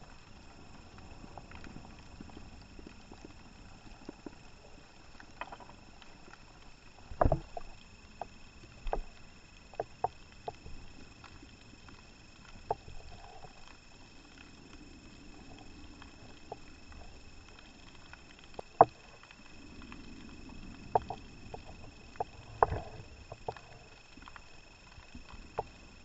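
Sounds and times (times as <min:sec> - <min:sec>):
low underwater rumble: 0:00.0 - 0:26.0.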